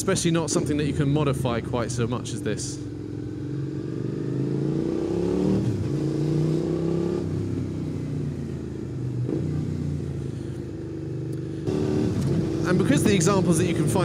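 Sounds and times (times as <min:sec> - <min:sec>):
motorcycle engine accelerating: 0:02.8 - 0:14.0.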